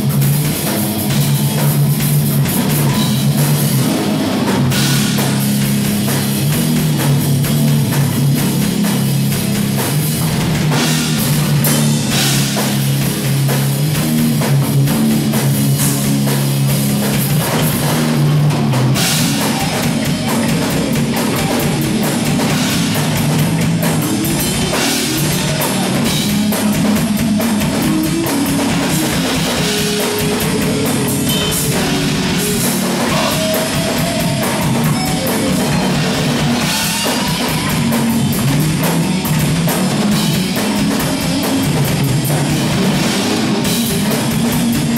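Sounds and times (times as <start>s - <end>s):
distorted electric guitars riffing: 0.0s - 44.9s
fast drum kit: 0.0s - 44.9s.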